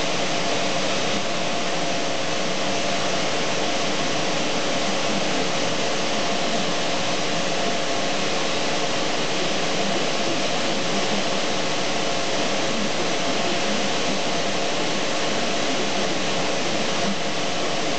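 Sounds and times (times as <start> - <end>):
fan motor rushing air: 0.0 - 17.9.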